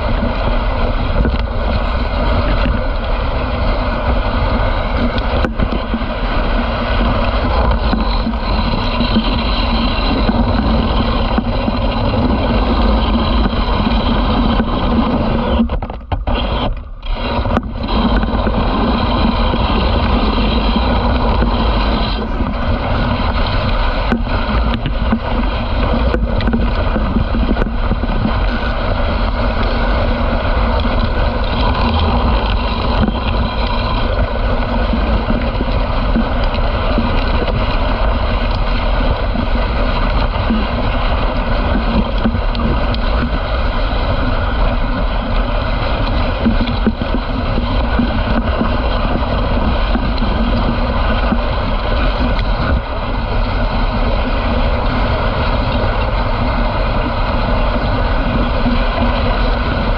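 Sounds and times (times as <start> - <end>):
sled runners sliding over snow: 0.0 - 59.9
wind on microphone: 0.0 - 59.9.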